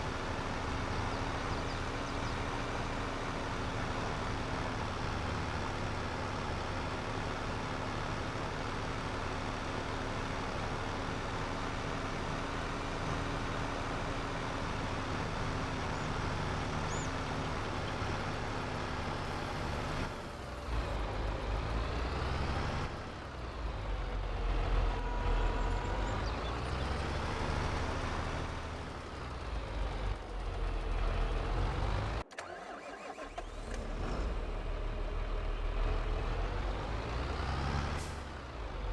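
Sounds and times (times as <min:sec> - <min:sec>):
tractor engine running: 0:00.0 - 0:37.3.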